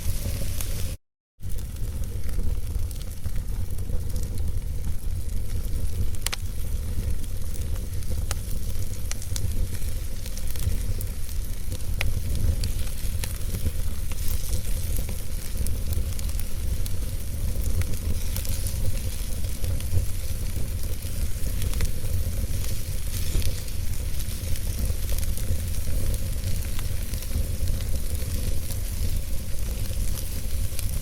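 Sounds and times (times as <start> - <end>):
sharp pops of fire: 0.0 - 31.0
wood fire crackling: 0.0 - 31.0.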